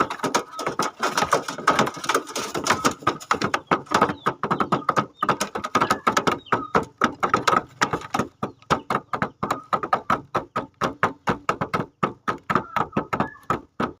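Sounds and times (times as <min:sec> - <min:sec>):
rapid uneven tapping: 0:00.0 - 0:14.0.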